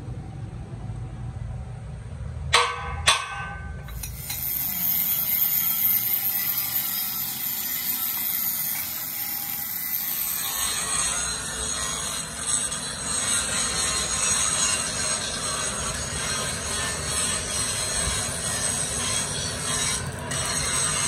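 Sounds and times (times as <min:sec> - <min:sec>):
welding arc crackling: 0:03.8 - 0:21.0.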